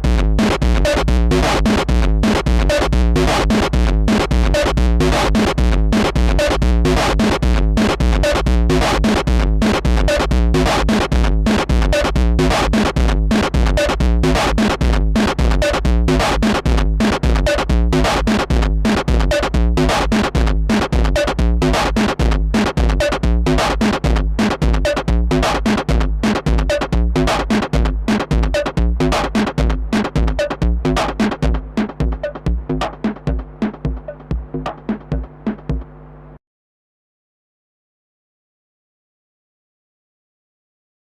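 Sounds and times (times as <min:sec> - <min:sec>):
distorted electronic drum loop: 0:00.0 - 0:36.0
strong bass: 0:00.0 - 0:36.3.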